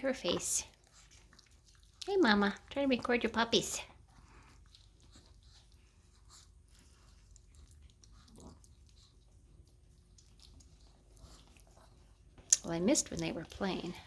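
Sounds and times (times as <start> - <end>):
puppies rustling and clicking: 0.0 - 14.0.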